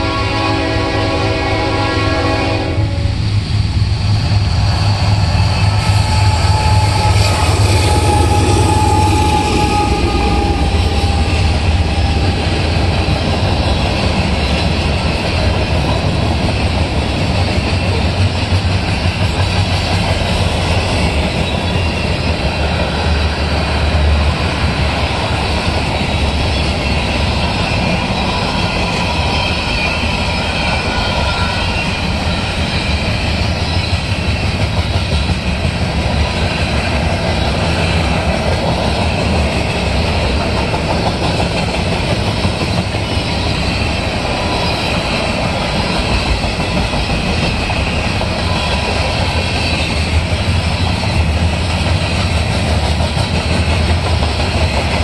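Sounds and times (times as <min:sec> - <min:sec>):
diesel locomotives rumbling: 0:00.0 - 0:55.0
train wheels clickety-clack: 0:00.0 - 0:55.0.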